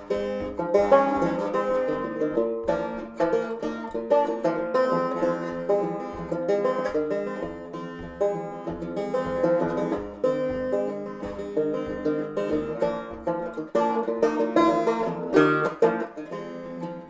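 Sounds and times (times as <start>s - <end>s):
steady low beat: 0.0s - 16.9s
bluegrass banjo music: 0.0s - 17.0s.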